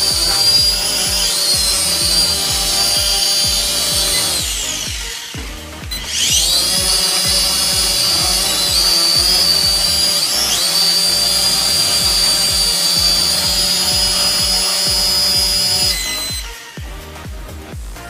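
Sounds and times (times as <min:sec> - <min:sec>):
toy drone motors whining: 0:00.0 - 0:16.8.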